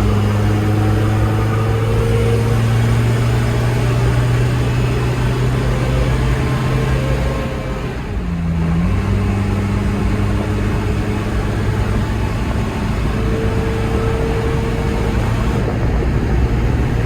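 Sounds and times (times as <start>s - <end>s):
diesel engine drone in cabin: 0.0s - 17.0s
road noise: 0.0s - 17.0s.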